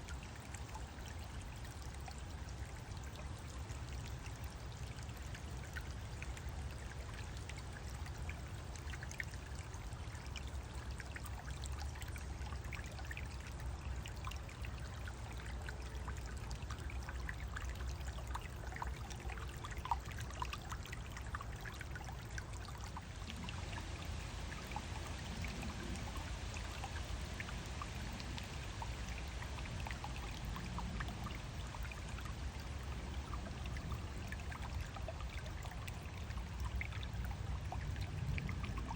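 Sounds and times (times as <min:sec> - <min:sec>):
stream trickling over waterfall: 0:00.0 - 0:38.9.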